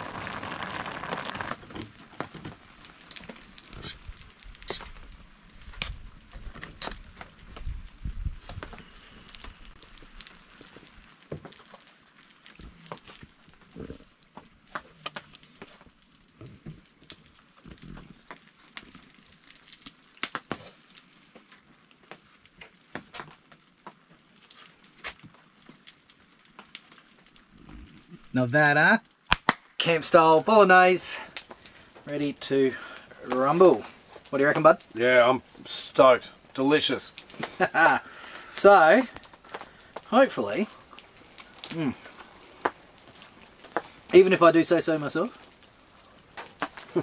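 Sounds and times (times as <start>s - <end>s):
faint ticks and crackles: 0.0s - 47.0s.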